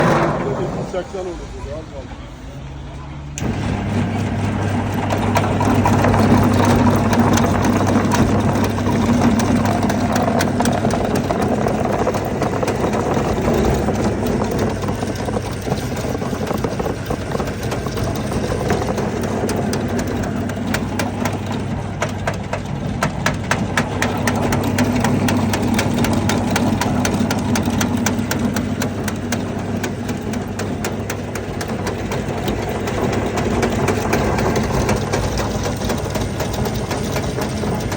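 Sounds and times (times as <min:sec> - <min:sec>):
machine motor hum: 0:00.0 - 0:37.9
fast clicking: 0:03.4 - 0:37.9.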